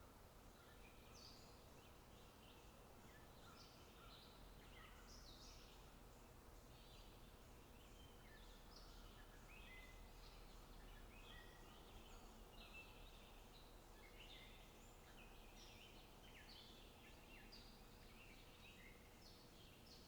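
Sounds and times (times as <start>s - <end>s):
low background hiss: 0.0s - 20.0s.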